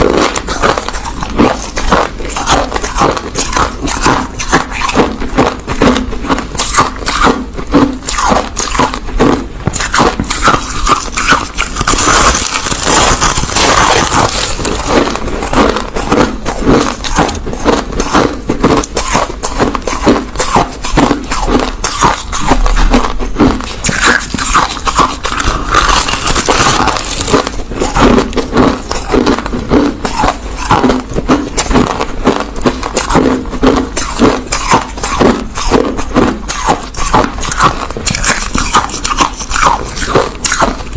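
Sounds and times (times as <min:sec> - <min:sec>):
crushed ice being chewed: 0:00.0 - 0:40.9.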